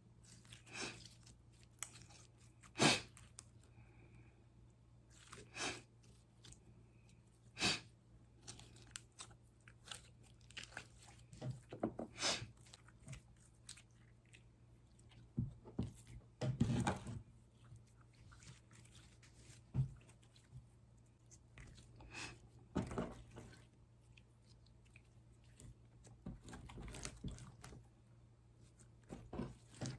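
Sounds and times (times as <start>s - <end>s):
slime squelching by hand: 0.0s - 3.8s, 5.0s - 29.9s.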